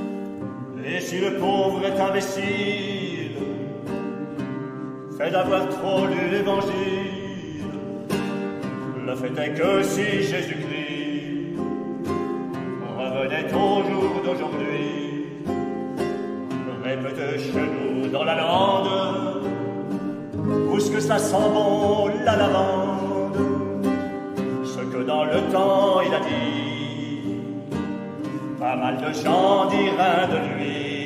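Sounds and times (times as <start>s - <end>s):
acoustic guitar: 0.0s - 31.0s
men's choir singing: 0.7s - 3.9s, 5.2s - 7.7s, 9.0s - 15.9s, 16.6s - 23.8s, 24.6s - 27.5s, 28.4s - 31.0s.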